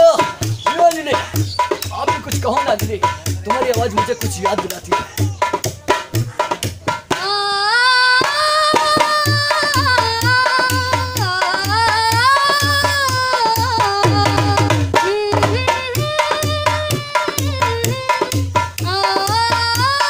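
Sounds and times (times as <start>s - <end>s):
tabla and drum beat: 0.0s - 20.0s.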